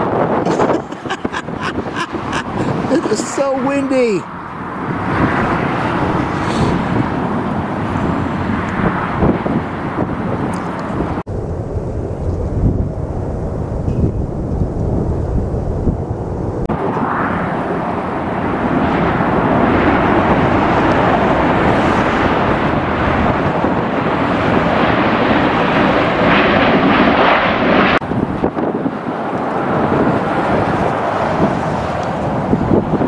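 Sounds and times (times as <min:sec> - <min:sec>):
jet engines roaring: 0:00.0 - 0:33.0
wind buffeting microphone: 0:00.0 - 0:33.0.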